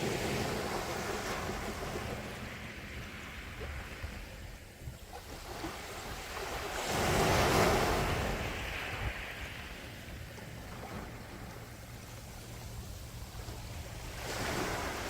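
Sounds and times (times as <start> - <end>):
low rumble of surf: 0.0 - 15.0
sea waves breaking on shore: 0.0 - 15.0.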